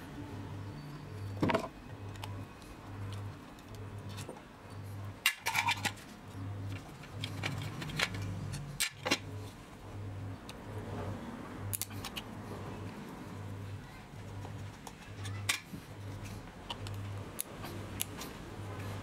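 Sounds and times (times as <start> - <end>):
low pulsing hum: 0.0 - 19.0.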